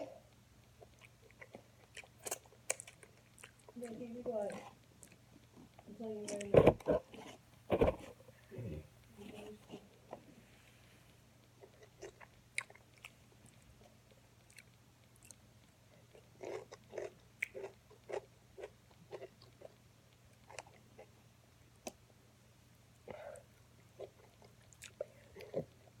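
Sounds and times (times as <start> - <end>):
person chewing food: 0.6 - 8.8, 11.4 - 21.2, 23.0 - 26.0.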